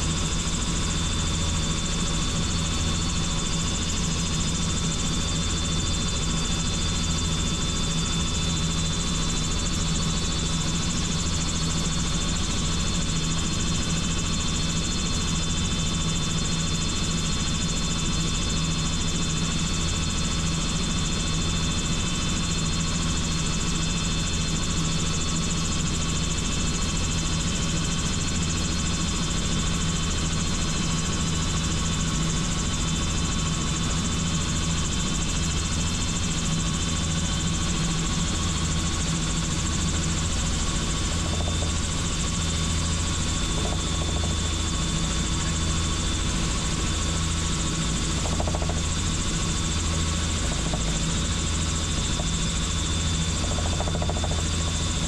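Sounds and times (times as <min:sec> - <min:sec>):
helicopter in flight: 0:00.0 - 0:55.0.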